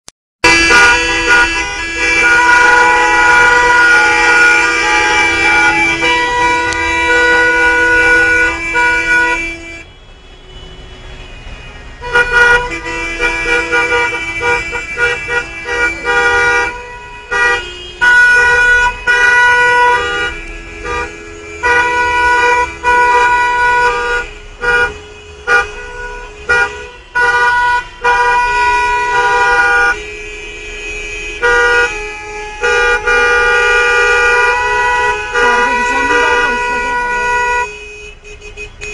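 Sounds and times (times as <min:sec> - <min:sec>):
car horns honking: 0:00.4 - 0:38.9.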